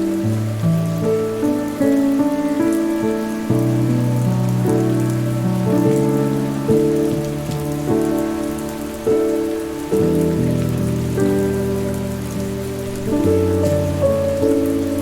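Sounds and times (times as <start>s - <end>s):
soft sustained chord music: 0.0s - 15.0s
steady rain: 0.0s - 15.0s.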